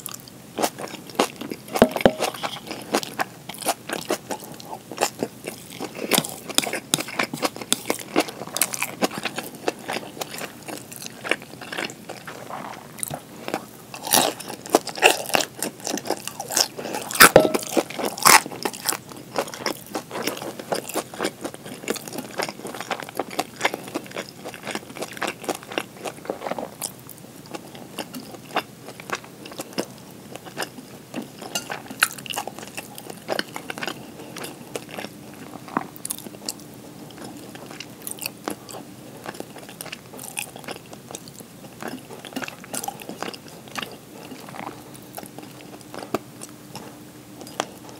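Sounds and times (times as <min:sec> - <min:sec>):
person chewing with wet crunches: 0:00.0 - 0:47.9.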